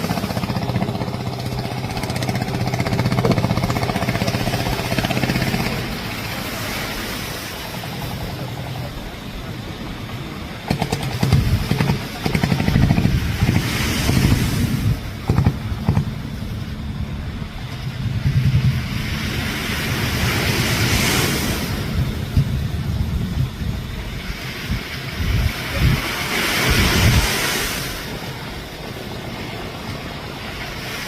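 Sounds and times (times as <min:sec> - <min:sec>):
boat engine running: 0:00.0 - 0:31.0
water noise: 0:00.0 - 0:31.0
wind noise: 0:00.0 - 0:31.0.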